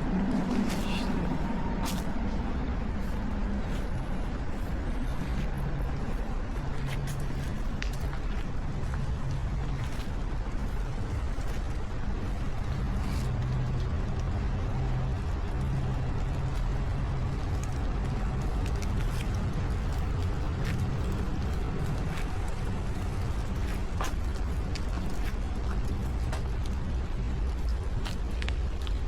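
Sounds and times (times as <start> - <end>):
low rumble of road traffic: 0.0 - 29.0.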